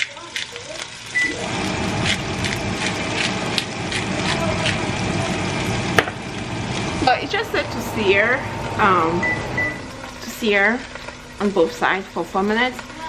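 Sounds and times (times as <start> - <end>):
meat sizzling in a pot: 0.0 - 7.6, 9.8 - 13.0.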